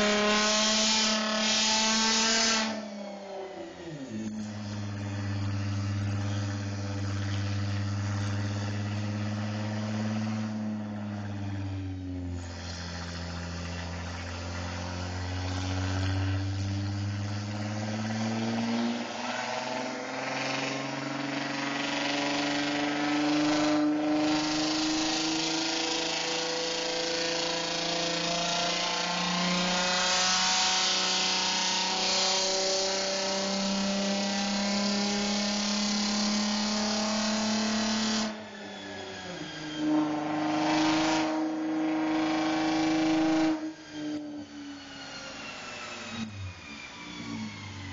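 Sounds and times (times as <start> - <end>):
car engine at full throttle: 0.0 - 47.9.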